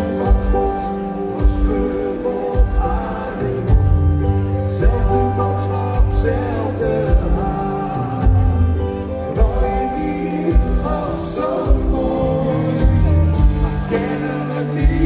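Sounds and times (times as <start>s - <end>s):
acoustic guitar: 0.0s - 15.0s
man singing: 0.0s - 15.0s
piano: 0.0s - 15.0s.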